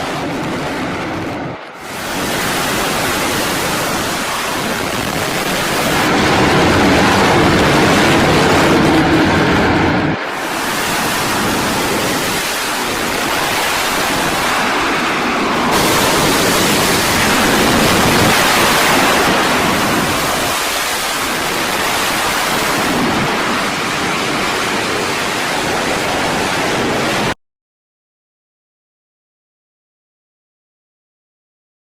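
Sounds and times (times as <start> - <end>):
fighter jet engines roaring: 0.0 - 27.4.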